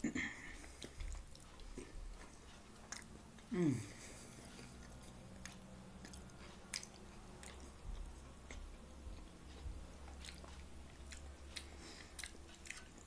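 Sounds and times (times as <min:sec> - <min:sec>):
faint low hum: 0:00.0 - 0:13.0
person chewing food: 0:00.0 - 0:13.0.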